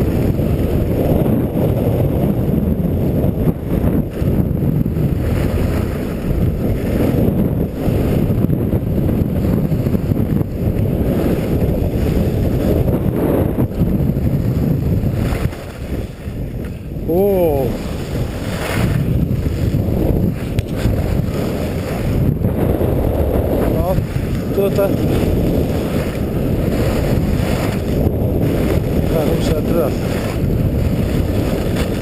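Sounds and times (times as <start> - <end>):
wind rushing over microphone: 0.0 - 32.0
skis scraping over snow: 3.7 - 32.0.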